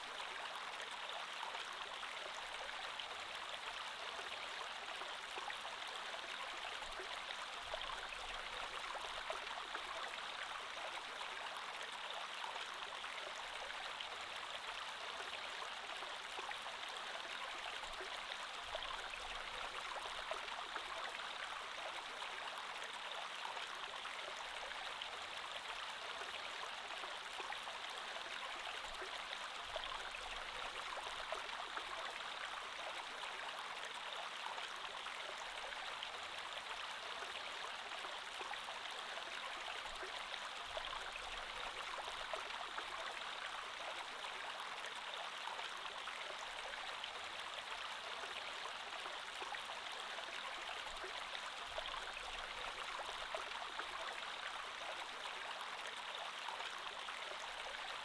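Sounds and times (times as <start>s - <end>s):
creek flowing over stones: 0.0s - 58.0s.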